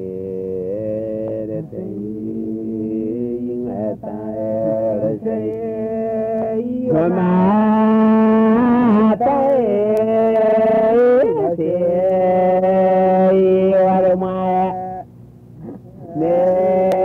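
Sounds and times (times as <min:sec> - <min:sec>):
men singing a chant-like song: 0:00.0 - 0:15.0, 0:15.6 - 0:17.0.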